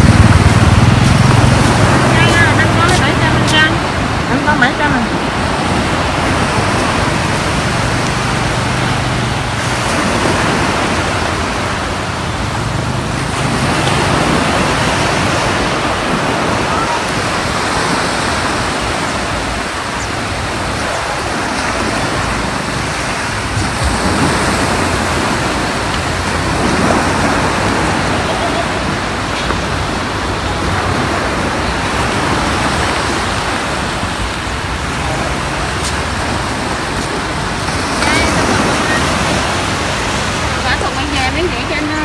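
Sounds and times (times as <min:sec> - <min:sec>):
waves breaking on beach: 0:00.0 - 0:42.0.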